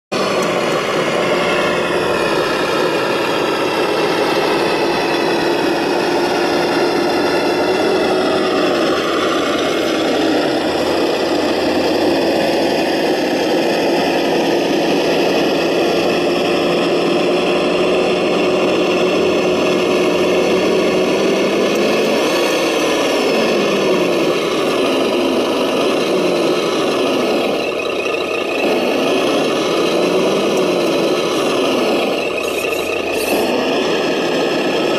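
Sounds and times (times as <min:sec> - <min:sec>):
model tractor engine drone: 0:00.1 - 0:34.9.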